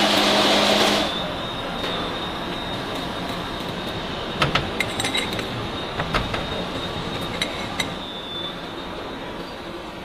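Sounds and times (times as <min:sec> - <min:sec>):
machine shop hum: 0:00.0 - 0:10.0
thin high whine: 0:00.0 - 0:10.0.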